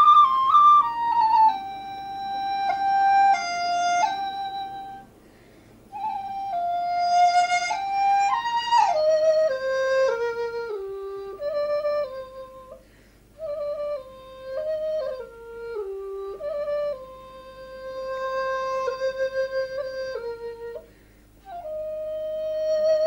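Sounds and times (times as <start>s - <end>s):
flute playing slow melody: 0.0s - 5.2s, 5.9s - 23.0s.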